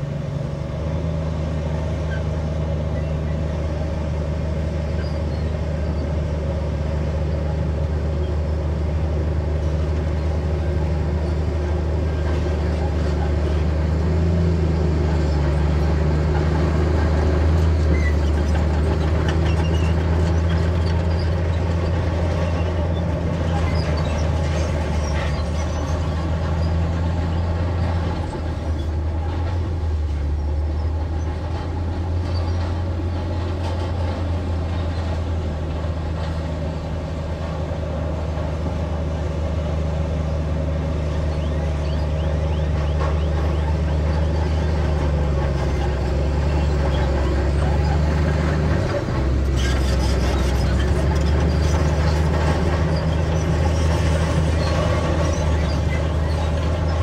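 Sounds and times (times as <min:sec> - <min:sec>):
bulldozer diesel engine drone: 0:00.0 - 0:57.0.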